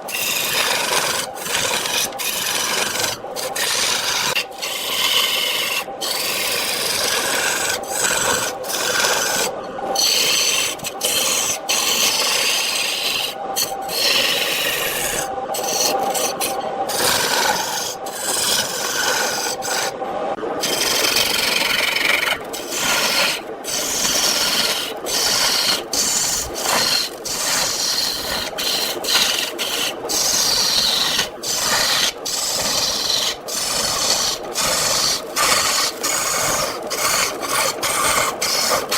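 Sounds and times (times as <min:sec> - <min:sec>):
faint steady hum: 0:00.0 - 0:38.9
lathe tool scraping wood: 0:00.0 - 0:38.9.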